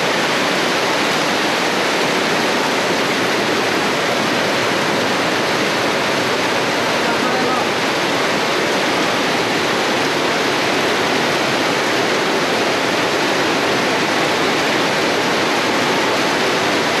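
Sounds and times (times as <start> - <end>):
heavy rain on trees and water: 0.0 - 17.0.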